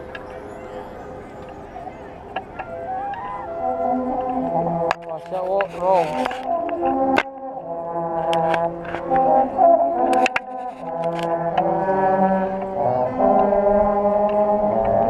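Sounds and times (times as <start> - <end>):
brass band sustained chords: 0.0 - 15.0.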